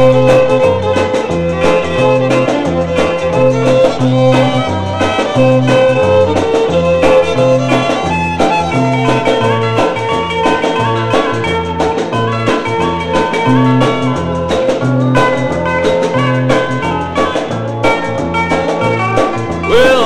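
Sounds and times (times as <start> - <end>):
bass line: 0.0 - 20.0
steady drum beat: 0.0 - 20.0.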